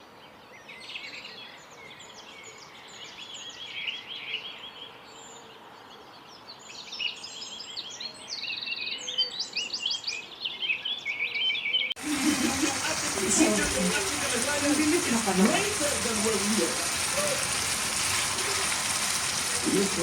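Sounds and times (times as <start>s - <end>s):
birds chirping: 0.3s - 20.0s.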